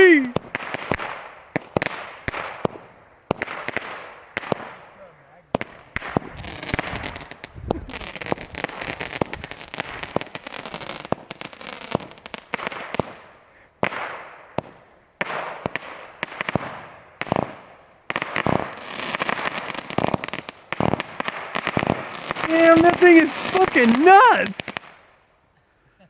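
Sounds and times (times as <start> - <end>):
firework bangs and pops: 0.0 - 25.2
firework crackle: 0.0 - 25.3.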